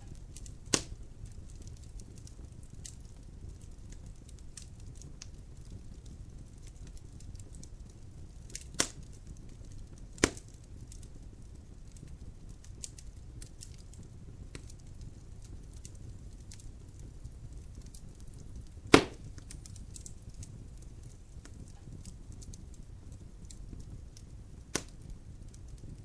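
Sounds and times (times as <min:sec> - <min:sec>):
wood fire crackling in fireplace: 0:00.0 - 0:26.0.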